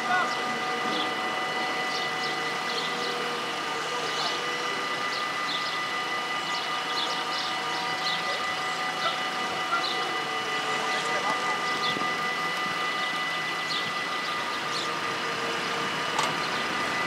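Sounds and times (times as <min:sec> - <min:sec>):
level-crossing warning bells ringing: 0:00.0 - 0:14.7.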